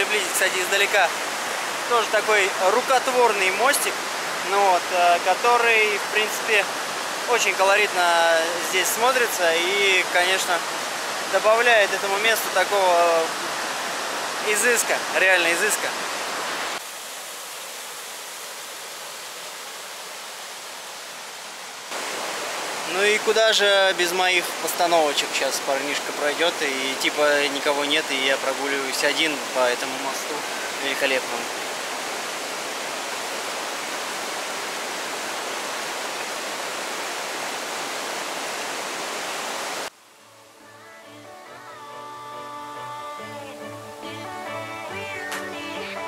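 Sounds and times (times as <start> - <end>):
water rushing over rapids: 0.0 - 40.5.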